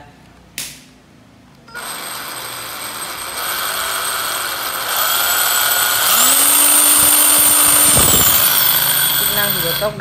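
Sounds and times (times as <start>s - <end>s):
cordless drill motor whine: 1.7s - 10.0s.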